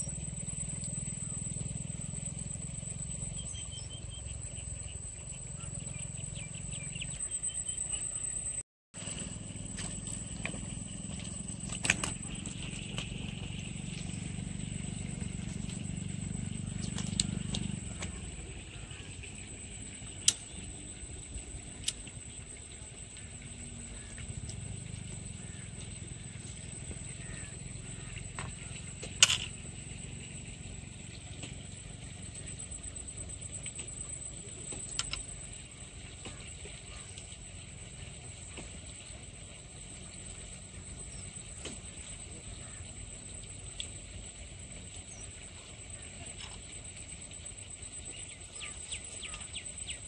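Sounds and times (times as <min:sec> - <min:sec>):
high-pitched whine: 0:00.0 - 0:50.0
low outdoor rumble: 0:00.0 - 0:50.0.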